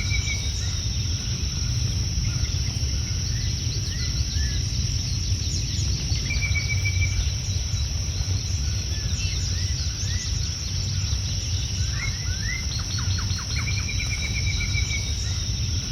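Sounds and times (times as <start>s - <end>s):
high insect drone: 0.0s - 15.9s
low outdoor rumble: 0.0s - 15.9s
wild birds chirping and trilling: 0.0s - 15.9s.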